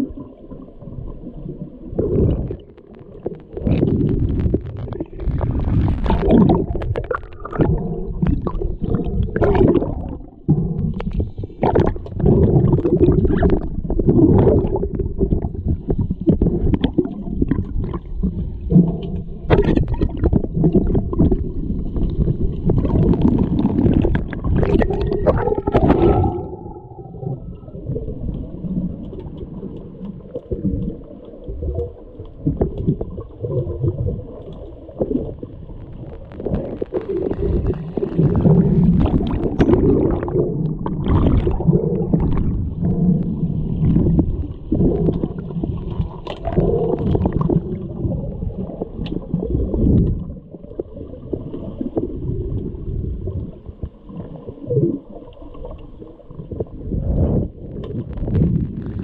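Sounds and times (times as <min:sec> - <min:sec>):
underwater water churning: 0:00.0 - 0:59.0.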